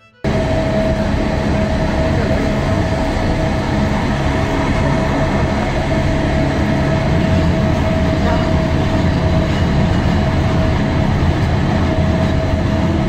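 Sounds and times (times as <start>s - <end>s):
train low rumble: 0.0s - 13.0s
steady high tone: 0.2s - 13.0s.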